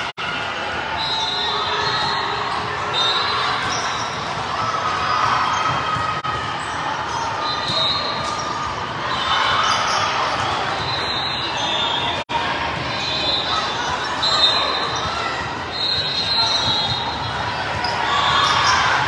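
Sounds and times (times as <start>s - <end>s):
crowd voices and shouts: 0.0s - 19.0s.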